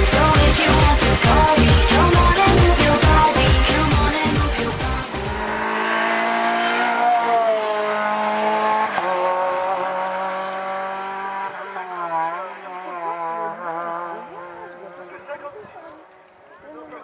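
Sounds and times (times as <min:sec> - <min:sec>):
race car engine at high revs: 0:00.0 - 0:15.5.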